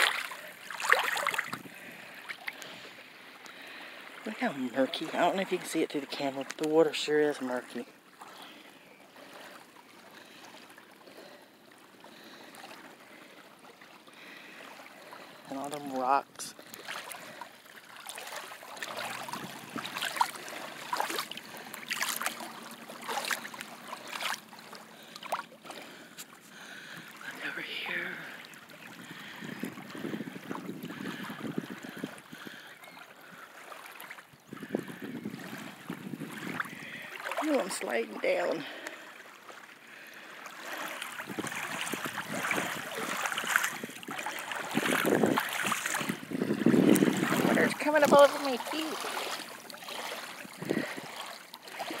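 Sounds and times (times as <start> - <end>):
shallow water lapping and sloshing: 0.0 - 52.0.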